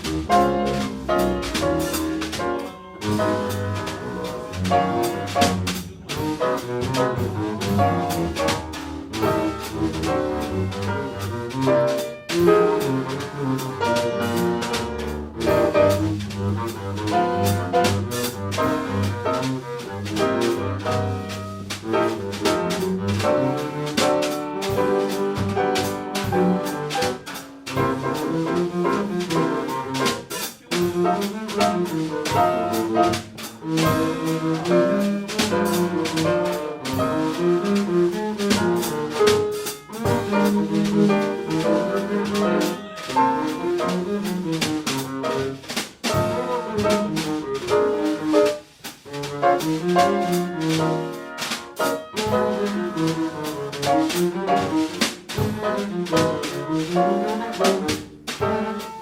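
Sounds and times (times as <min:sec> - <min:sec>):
double bass notes: 0:00.0 - 0:59.0
jazz melody line: 0:00.0 - 0:59.0.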